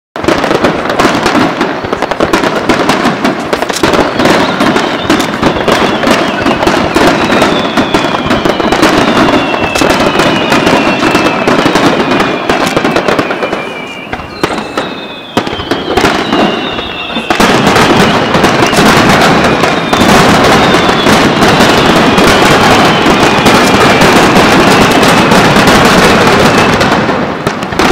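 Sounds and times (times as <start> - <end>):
fireworks bangs and crackles: 0.2 - 27.9
high whistling fireworks: 0.2 - 27.9.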